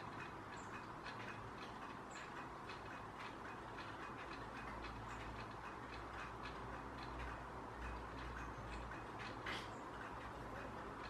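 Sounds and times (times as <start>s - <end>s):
faint irregular ticks: 0.0s - 11.0s.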